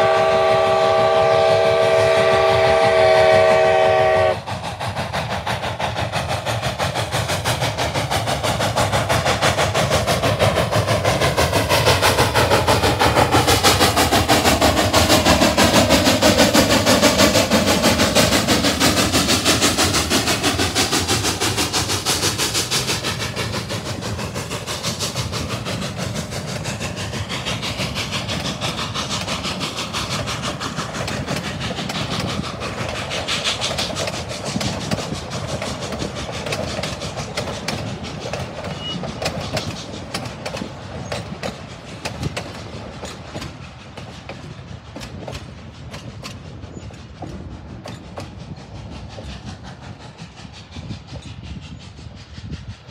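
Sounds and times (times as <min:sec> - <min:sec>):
steam train passing: 0:00.0 - 0:52.9
wheels clicking over rail joints: 0:04.5 - 0:51.3.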